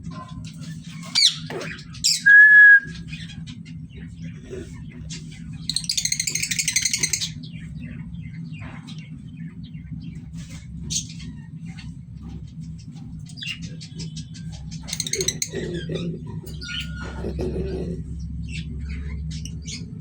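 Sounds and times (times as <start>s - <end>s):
steady low hum: 0.0s - 20.0s
parrots chattering and chirping: 0.1s - 2.3s, 2.9s - 20.0s.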